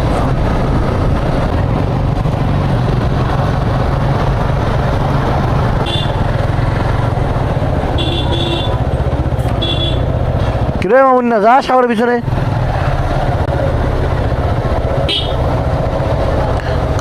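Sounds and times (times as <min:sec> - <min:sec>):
motorcycle engine running: 0:00.0 - 0:11.3, 0:12.2 - 0:17.0
road and wind noise: 0:00.0 - 0:17.0.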